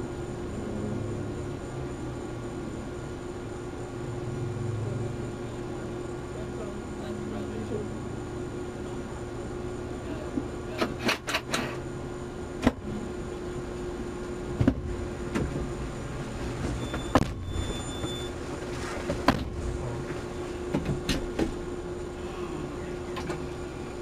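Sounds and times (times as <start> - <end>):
car idling hum: 0.0 - 24.0.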